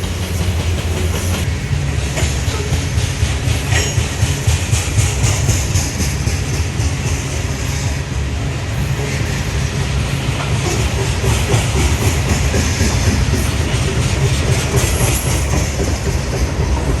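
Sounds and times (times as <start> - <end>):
train cars rolling past: 0.0 - 17.0.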